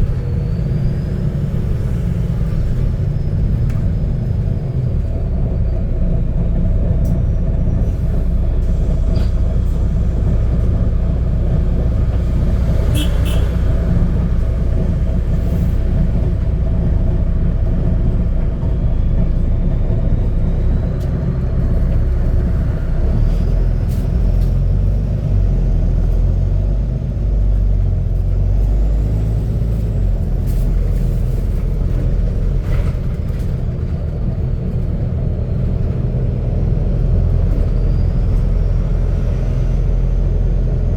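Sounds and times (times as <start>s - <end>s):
bus engine deep drone: 0.0s - 40.9s.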